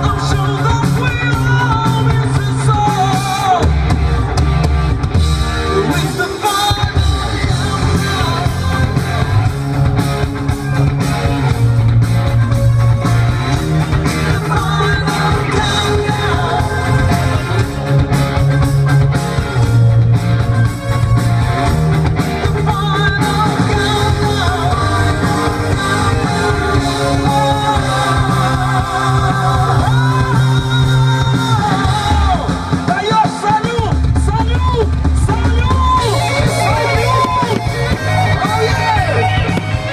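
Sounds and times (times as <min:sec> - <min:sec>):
rock music with singing: 0:00.0 - 0:39.9
sustained bass line: 0:00.0 - 0:39.9.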